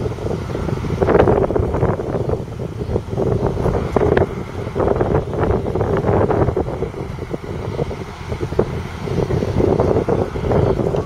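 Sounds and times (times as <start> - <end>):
combine harvester diesel drone: 0.0 - 11.0.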